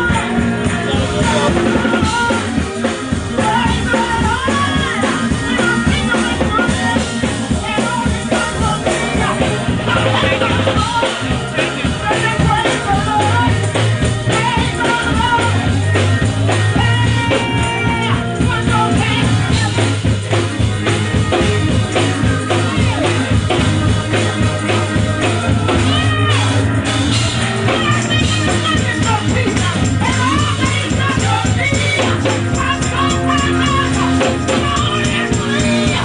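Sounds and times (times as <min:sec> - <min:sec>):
woman singing into a microphone: 0:00.0 - 0:26.7, 0:27.6 - 0:36.0
gospel band playing: 0:00.0 - 0:36.0
heavy bass line: 0:00.0 - 0:36.0.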